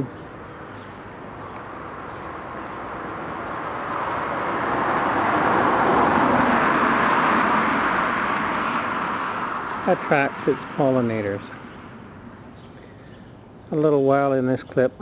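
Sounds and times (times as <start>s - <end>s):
vehicle passing on street: 0.0s - 13.7s.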